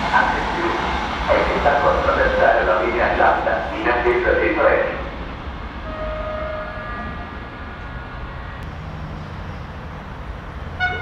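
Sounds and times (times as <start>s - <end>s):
train rumbling through station: 0.0s - 11.0s.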